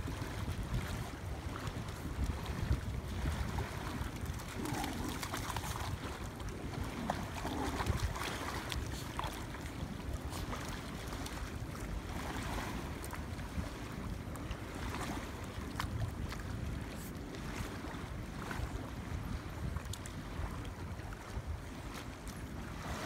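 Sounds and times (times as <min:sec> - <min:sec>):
water splashing and lapping: 0:00.0 - 0:23.0
wind on microphone: 0:00.0 - 0:23.0.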